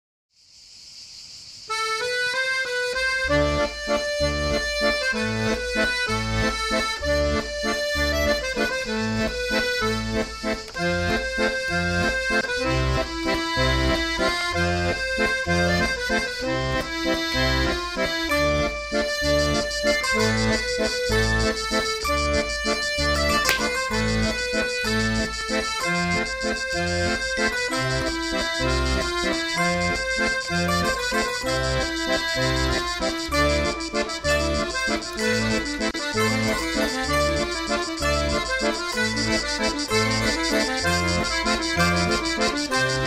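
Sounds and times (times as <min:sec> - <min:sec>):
accordion music: 0:01.7 - 0:43.0.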